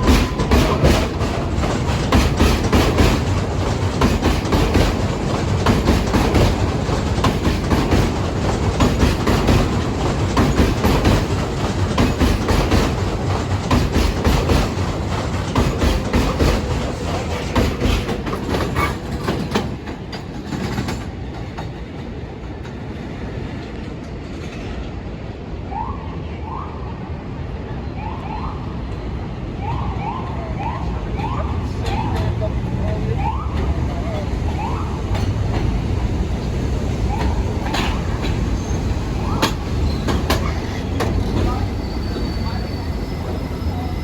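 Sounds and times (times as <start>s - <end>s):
train wheels clacking on rails: 0.0s - 25.1s, 30.6s - 44.0s
train rumble: 0.0s - 44.0s.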